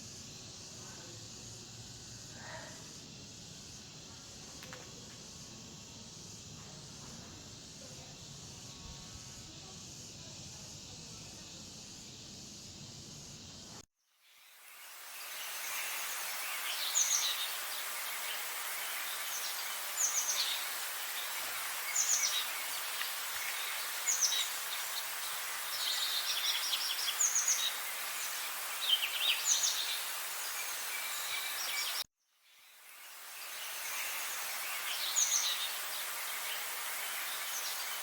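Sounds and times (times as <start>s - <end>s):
outdoor hiss: 0.0s - 38.0s.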